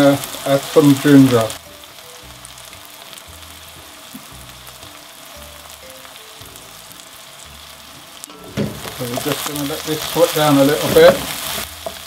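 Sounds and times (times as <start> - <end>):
onions frying in oil: 0.0 - 12.0.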